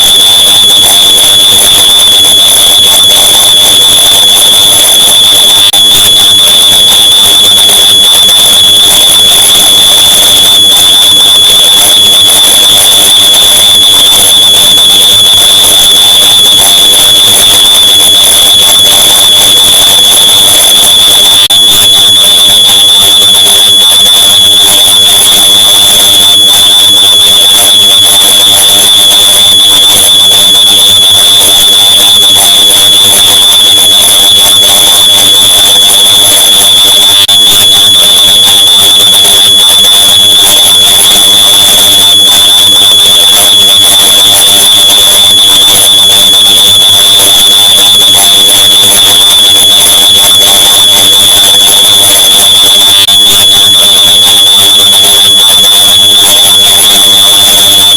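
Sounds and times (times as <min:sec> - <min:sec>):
high-pitched smoke alarm tone: 0:00.0 - 0:57.9.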